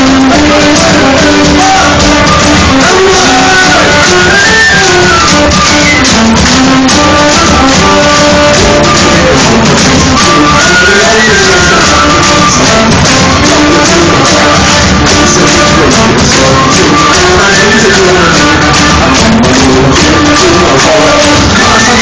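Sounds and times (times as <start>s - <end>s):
folk-metal band playing live: 0.0s - 22.0s
stepwise melody line: 0.0s - 22.0s.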